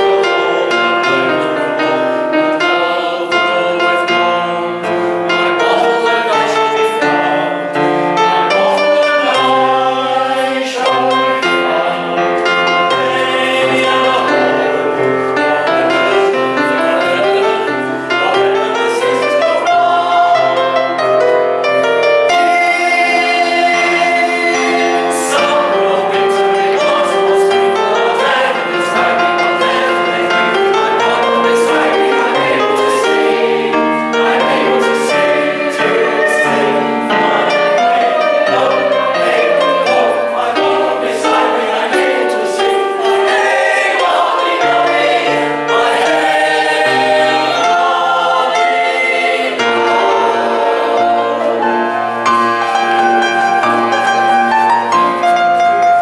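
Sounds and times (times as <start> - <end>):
mixed chorus singing: 0.0 - 56.0
piano accompaniment: 0.0 - 56.0.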